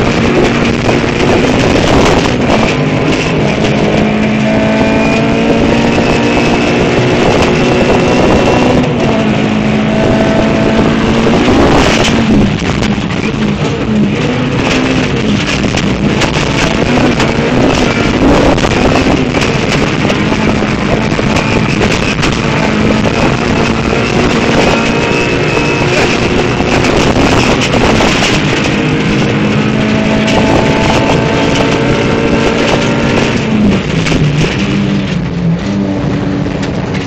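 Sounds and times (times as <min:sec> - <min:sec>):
car engine at high revs: 0:00.0 - 0:37.0
road noise and rattles: 0:00.0 - 0:37.0.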